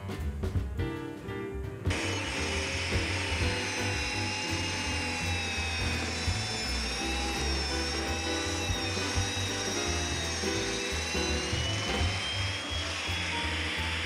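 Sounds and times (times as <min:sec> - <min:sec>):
background music: 0:00.0 - 0:14.0
mortising machine high whine: 0:01.9 - 0:14.0.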